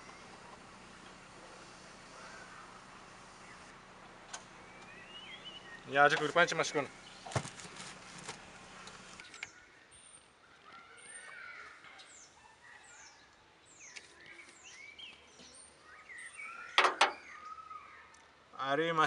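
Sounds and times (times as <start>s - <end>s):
small birds chirping: 0.0s - 18.7s
faint outdoor hiss: 0.0s - 19.0s.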